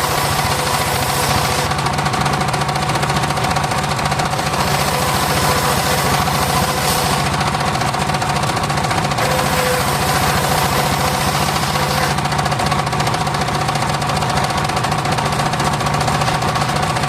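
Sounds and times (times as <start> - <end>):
sawmill engine knocking: 0.0 - 17.0.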